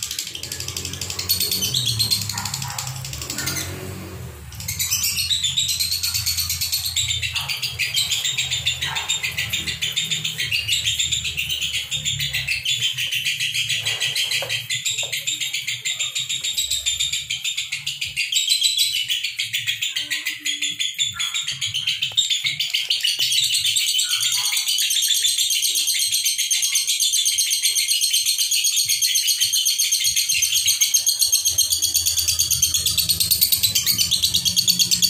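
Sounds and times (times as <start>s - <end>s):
lovebirds chirping rapidly: 0.0s - 35.0s.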